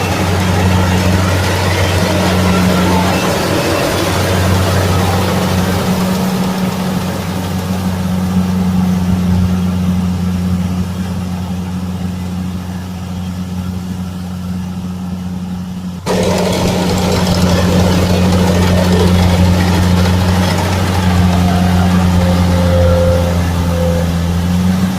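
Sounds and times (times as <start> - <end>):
diesel engine humming: 0.0 - 24.9.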